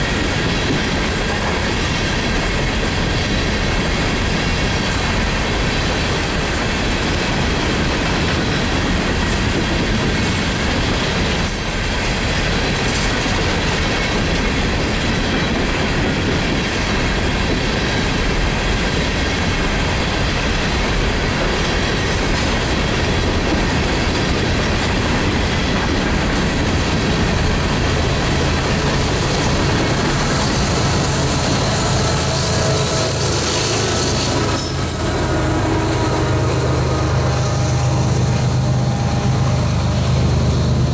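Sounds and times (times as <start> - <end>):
train wheels rolling on rails: 0.0 - 40.9.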